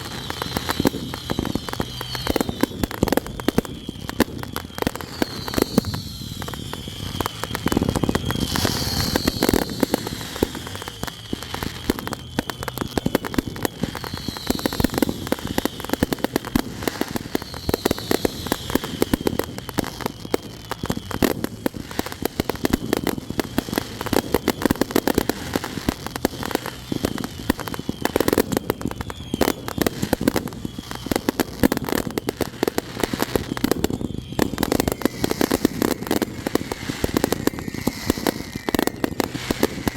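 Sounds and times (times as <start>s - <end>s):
fireworks booms: 0.0s - 39.9s
fireworks crackling and popping: 0.0s - 39.9s
fireworks whistling: 0.0s - 39.9s.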